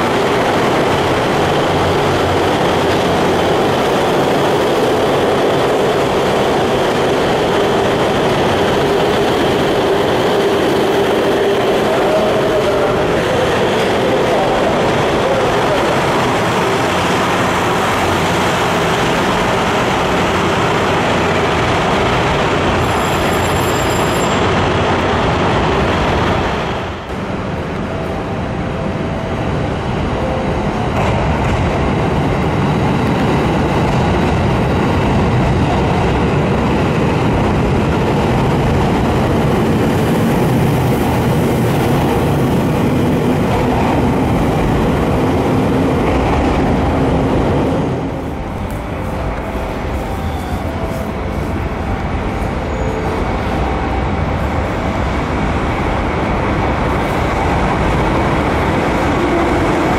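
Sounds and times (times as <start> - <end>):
diesel train rumbling: 0.0 - 59.9
electric train running past: 0.0 - 59.9.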